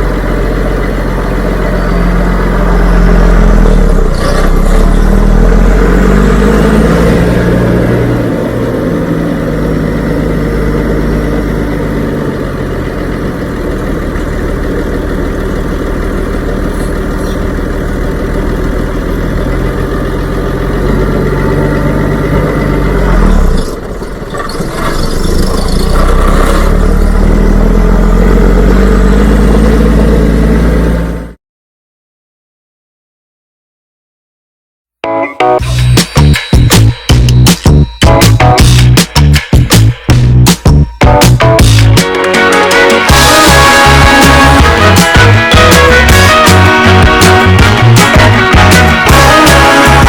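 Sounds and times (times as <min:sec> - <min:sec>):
large engine running: 0:00.0 - 0:31.4, 0:35.6 - 0:50.0.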